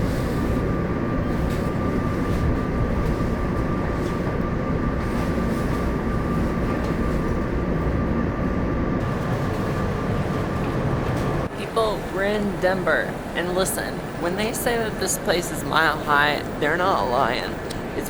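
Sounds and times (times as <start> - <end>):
thin steady whine: 0.0 - 18.0
train rumbling: 0.0 - 18.0.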